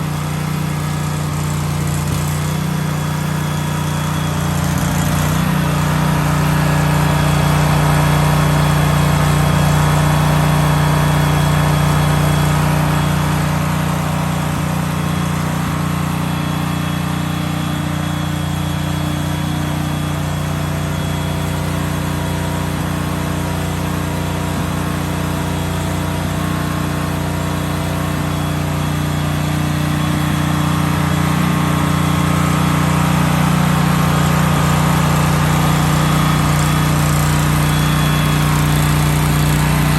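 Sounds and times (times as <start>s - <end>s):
generator engine hum: 0.0s - 39.9s.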